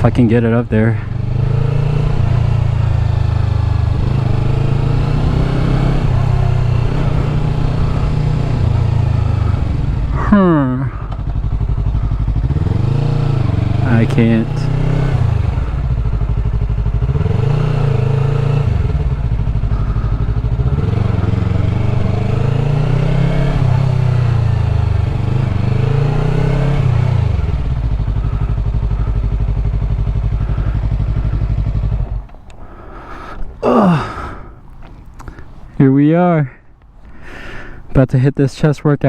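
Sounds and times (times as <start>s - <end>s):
motorcycle engine revving and idling: 0.0s - 35.8s.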